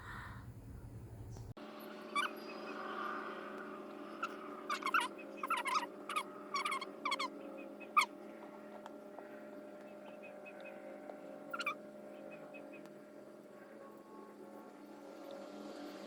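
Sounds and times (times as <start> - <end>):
steady low hum: 0.0 - 16.0
small birds chirping: 1.3 - 14.6.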